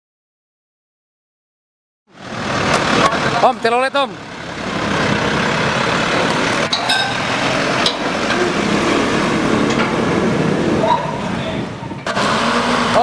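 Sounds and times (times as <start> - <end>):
heavy vehicle driving past: 2.1 - 13.0.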